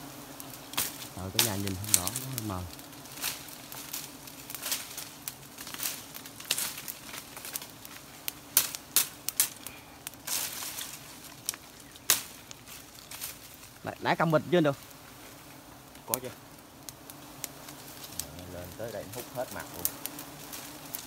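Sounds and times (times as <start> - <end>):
bees humming: 0.0 - 21.0
smoke torch crackling: 0.0 - 21.0.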